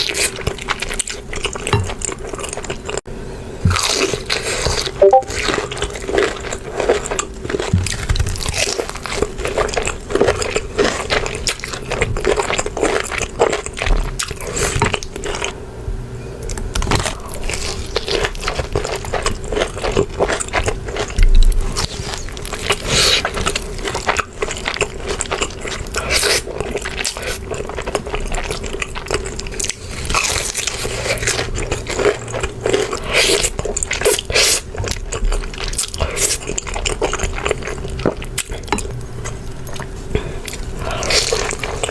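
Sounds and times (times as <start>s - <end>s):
wet chewing: 3.7s - 15.5s, 16.8s - 41.9s.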